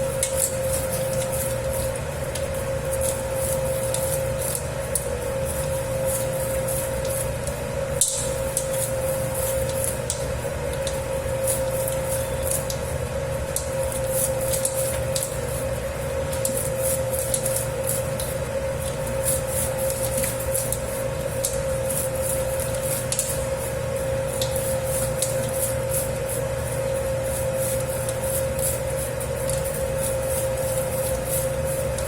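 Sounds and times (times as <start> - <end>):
dough kneading machine motor hum: 0.0 - 32.0
dough squishing with clicks: 0.0 - 32.0.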